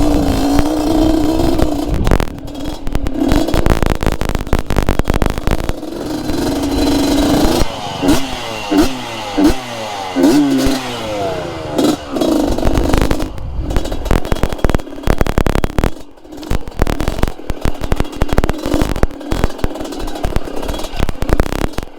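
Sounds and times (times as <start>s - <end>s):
motorcycle clattering over rock: 0.0s - 11.0s, 11.8s - 21.9s
motorcycle engine revving: 0.0s - 21.9s.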